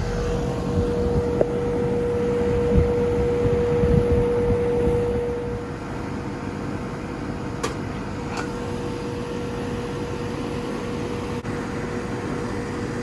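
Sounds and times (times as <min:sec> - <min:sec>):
air conditioner condenser humming: 0:00.0 - 0:13.0.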